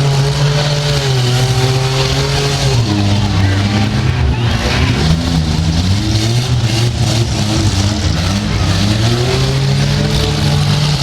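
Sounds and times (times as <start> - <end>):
steady background noise: 0.0 - 11.0
truck engines revving: 0.0 - 11.0.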